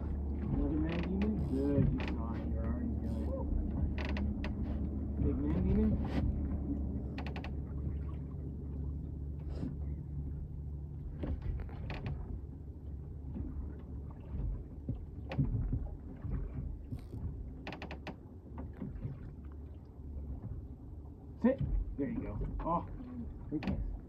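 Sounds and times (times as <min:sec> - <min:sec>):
oars creaking in oarlocks: 0:00.0 - 0:24.0
steady low rumble: 0:00.0 - 0:24.0.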